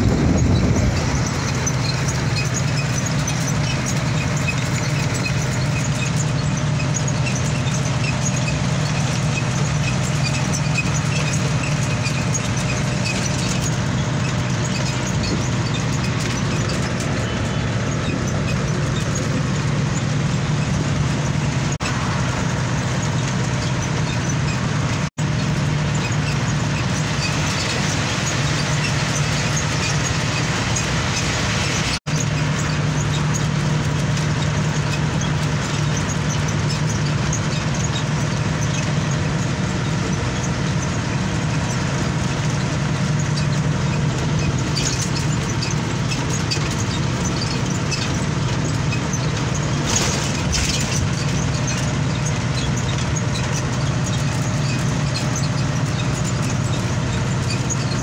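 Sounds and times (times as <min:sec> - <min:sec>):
low engine drone: 0:00.0 - 0:58.0
road and wind noise: 0:00.0 - 0:58.0.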